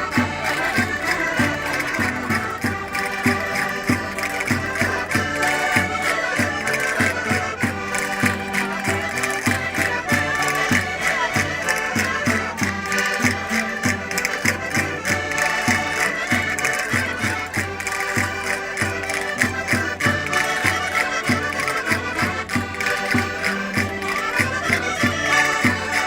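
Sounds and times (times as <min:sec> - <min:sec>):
concertinas playing folk dance tune: 0:00.0 - 0:26.0.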